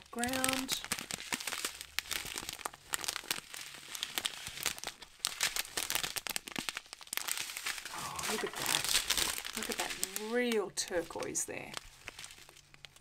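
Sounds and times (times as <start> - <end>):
plastic zip bags crinkling: 0.0 - 13.0.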